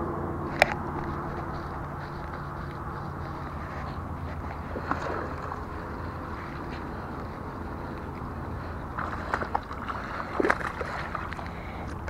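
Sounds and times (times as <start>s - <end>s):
low rumble: 0.0s - 12.0s
fish splashing: 0.5s - 12.0s.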